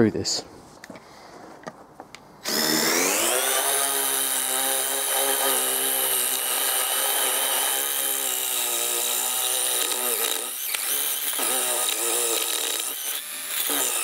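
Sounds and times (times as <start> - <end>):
impact driver bit grinding concrete: 2.4 - 14.0.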